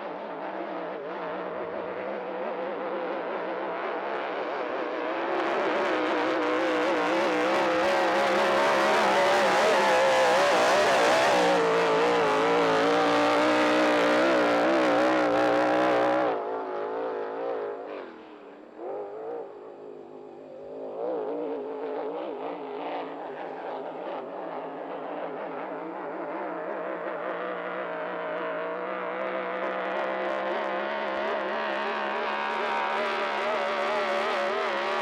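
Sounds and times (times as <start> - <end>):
racing boat engine: 0.1 - 35.0.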